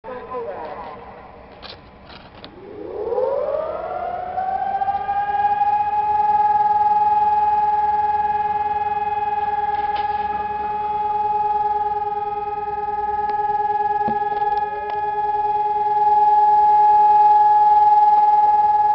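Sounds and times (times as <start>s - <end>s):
civil defence siren: 0.6s - 18.9s.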